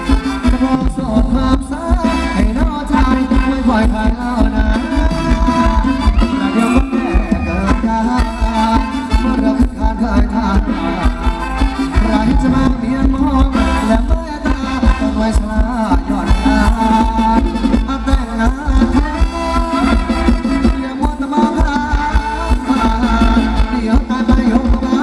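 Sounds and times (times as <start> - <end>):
live band dance music: 0.0 - 25.0
steady drum beat: 0.0 - 25.0.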